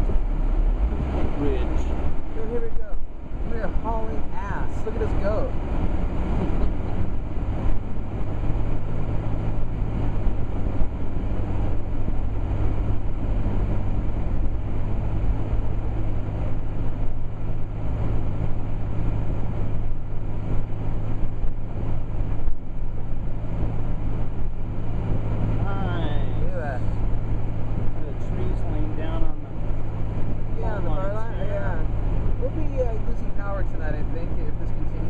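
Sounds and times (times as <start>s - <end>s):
constant low hum: 0.0s - 35.0s
vehicle engine and road noise: 0.0s - 35.0s.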